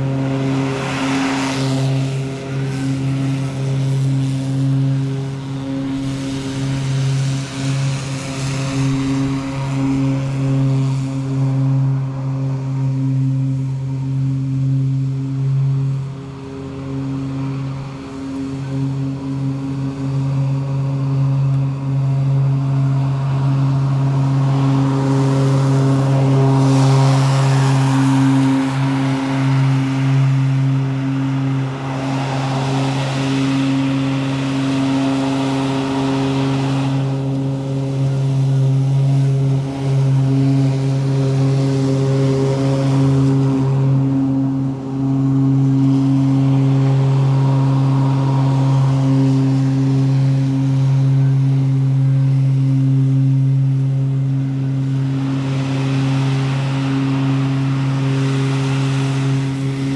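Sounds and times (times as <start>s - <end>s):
riding mower droning: 0.0s - 59.9s.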